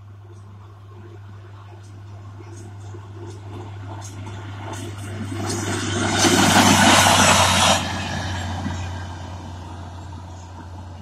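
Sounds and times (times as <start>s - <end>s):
diesel engine humming: 0.0s - 11.0s
rushing noise of passing vehicle: 1.0s - 11.0s.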